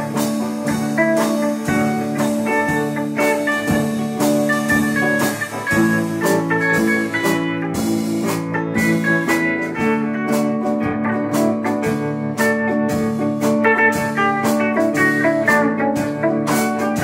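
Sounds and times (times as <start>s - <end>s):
drum keeping time: 0.0s - 17.0s
electric guitars ringing notes: 0.0s - 17.0s
slow country ballad by small band: 0.0s - 17.0s.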